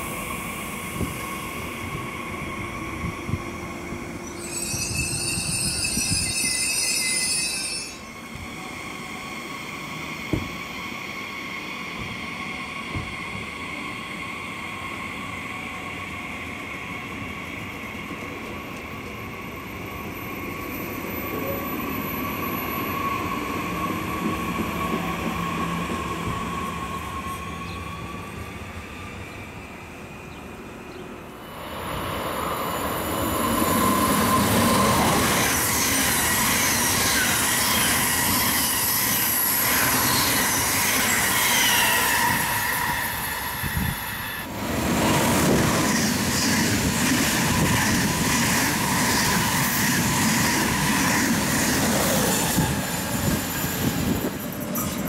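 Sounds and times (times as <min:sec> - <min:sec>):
train passing at speed: 0:00.0 - 0:55.0
train running slowly with whine: 0:00.0 - 0:55.0.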